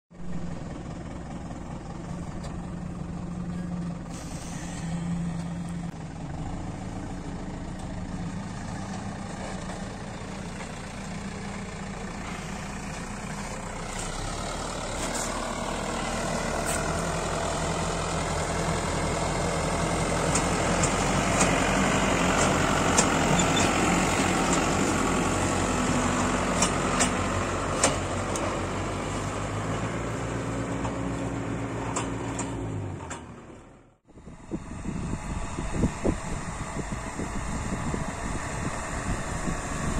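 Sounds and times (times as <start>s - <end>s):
tractor diesel engine running: 0.1s - 39.9s.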